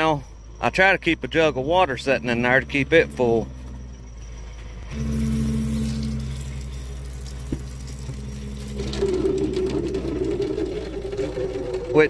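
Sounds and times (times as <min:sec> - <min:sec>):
low electric hum: 0:00.0 - 0:12.0.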